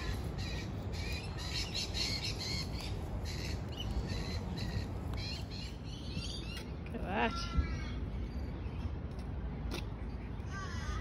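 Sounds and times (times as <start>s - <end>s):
steady low rumble: 0.0s - 10.8s
birds chirping: 0.0s - 11.0s.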